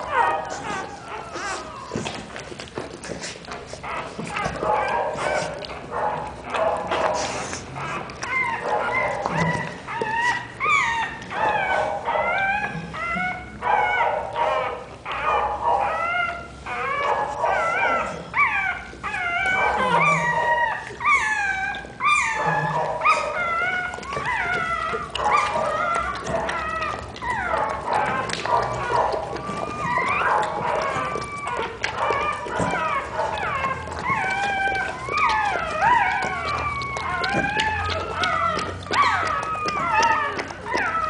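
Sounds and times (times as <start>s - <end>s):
puppies squealing and whimpering: 0.0s - 41.0s.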